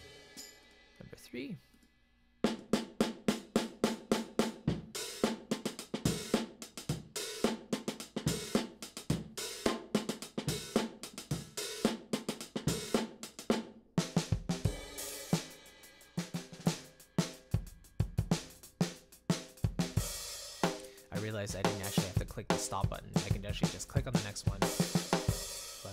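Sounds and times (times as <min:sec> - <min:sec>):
drum kit beat: 0:00.0 - 0:01.2, 0:02.4 - 0:25.9.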